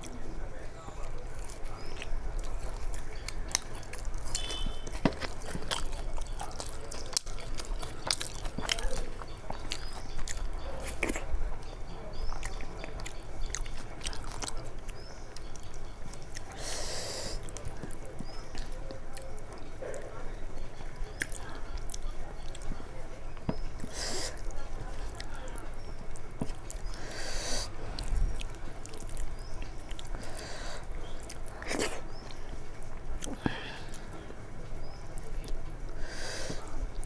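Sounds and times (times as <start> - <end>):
person chewing and smacking: 0.0 - 37.0.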